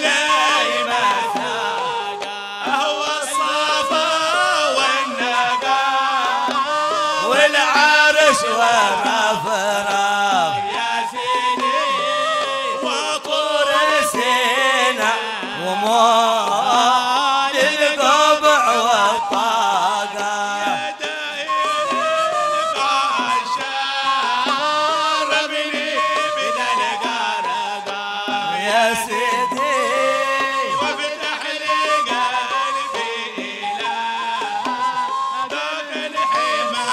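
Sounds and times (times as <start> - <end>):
men singing a chant-like melody: 0.0 - 36.9.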